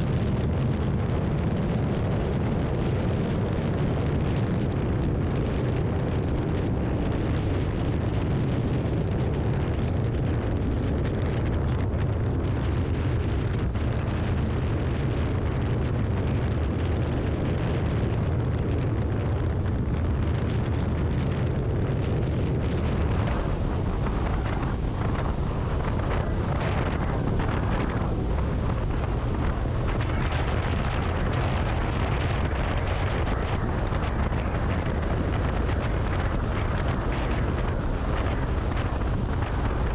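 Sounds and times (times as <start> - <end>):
motorcycle engine and road drone: 0.0 - 39.9
wind buffeting microphone: 0.0 - 39.9.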